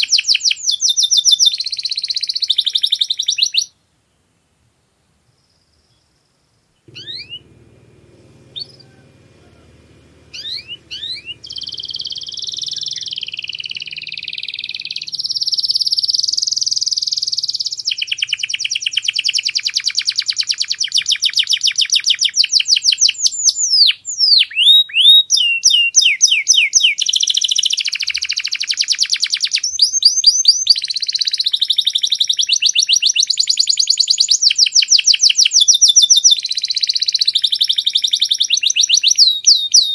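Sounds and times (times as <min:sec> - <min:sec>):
canary singing: 0:00.0 - 0:03.7, 0:06.8 - 0:39.9.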